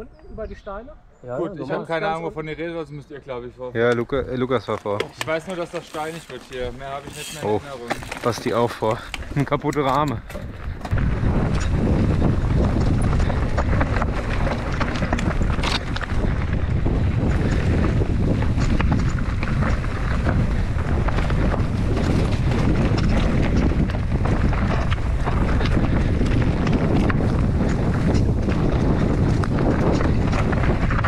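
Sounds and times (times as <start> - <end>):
bike tyres rolling over rocks: 4.1 - 31.0
bike knocks and rattles: 4.7 - 31.0
wind rumble on microphone: 5.9 - 31.0.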